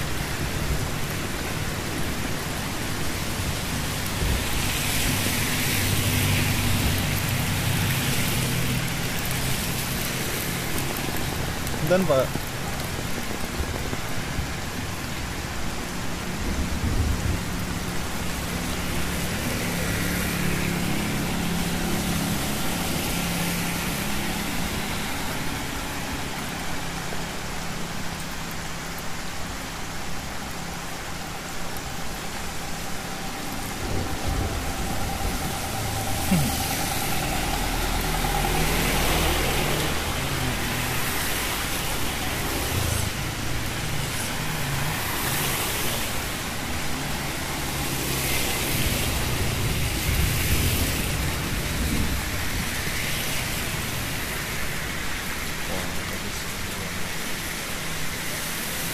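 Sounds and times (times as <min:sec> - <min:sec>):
rain falling on street: 0:00.0 - 0:58.9
vehicles passing on wet road: 0:00.0 - 0:58.9.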